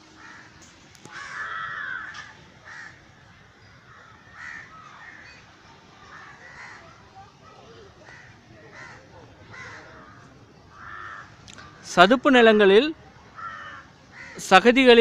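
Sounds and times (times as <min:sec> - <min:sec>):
birds calling: 0:00.0 - 0:12.5, 0:13.3 - 0:14.7.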